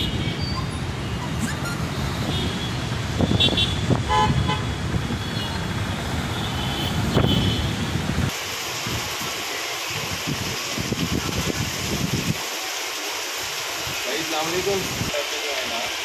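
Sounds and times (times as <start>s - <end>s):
traffic on wet street: 0.0s - 16.0s.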